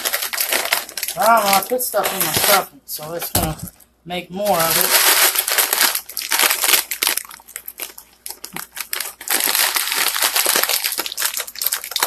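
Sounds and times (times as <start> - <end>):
packet crinkling and crackling: 0.0 - 12.0.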